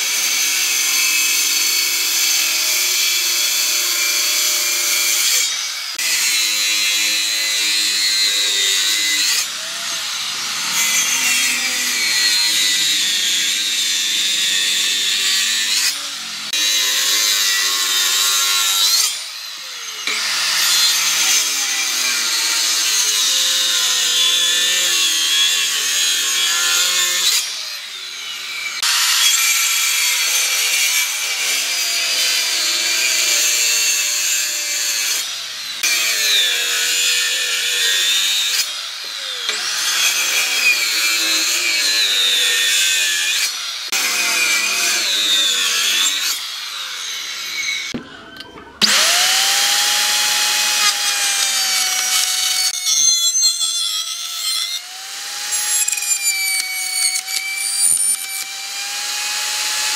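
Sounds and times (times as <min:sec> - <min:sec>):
circular saw cutting wood: 0:00.0 - 0:59.9
router whining: 0:00.0 - 0:59.9.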